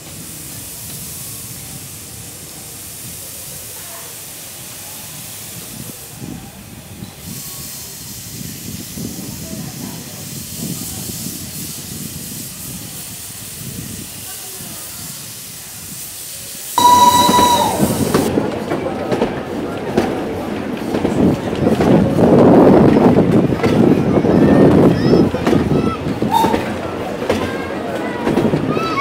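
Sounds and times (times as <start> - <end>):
steam locomotive hissing steam: 0.0 - 18.8, 20.3 - 29.0.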